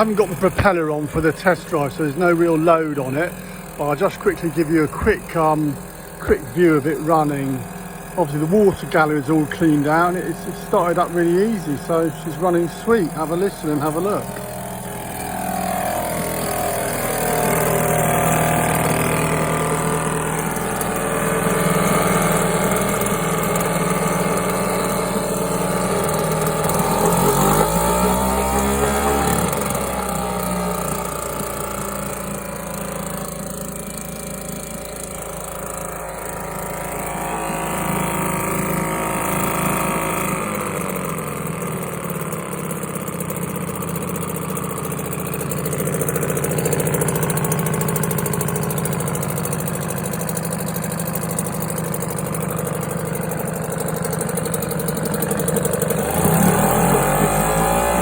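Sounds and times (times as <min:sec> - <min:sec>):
outboard engine revving: 0:00.0 - 0:58.0.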